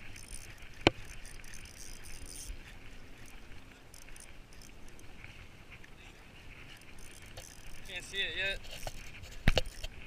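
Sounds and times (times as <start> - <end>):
spinning reel cranking: 0.0 - 5.1, 6.5 - 10.0.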